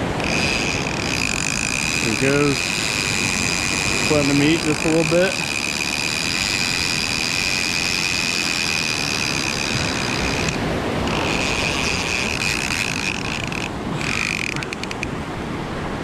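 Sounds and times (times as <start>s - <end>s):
fishing reel whining: 0.0s - 15.3s
wind: 0.0s - 16.0s.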